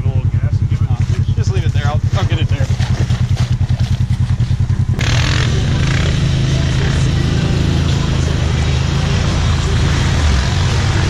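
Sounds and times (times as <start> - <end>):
engine idling with rapid pulsing: 0.0 - 11.0
vehicle engine drone driving: 0.0 - 11.0.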